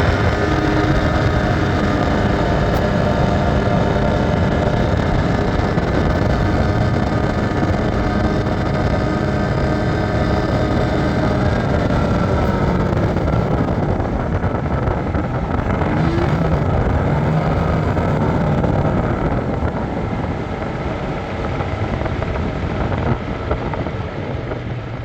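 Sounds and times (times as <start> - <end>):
vehicle engine running: 0.0 - 25.0
wind on microphone: 0.0 - 25.0.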